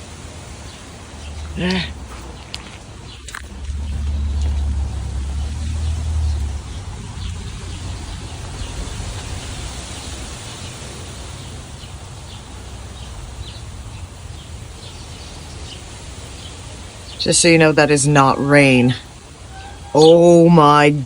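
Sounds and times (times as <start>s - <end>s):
birds chirping: 0.0s - 21.0s
wind blowing through trees: 0.0s - 21.0s
wind buffeting microphone: 0.0s - 21.0s.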